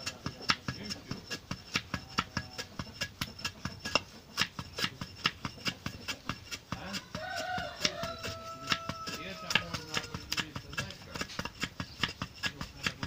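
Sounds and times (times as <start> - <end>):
hand plane scraping wood: 0.0 - 13.0.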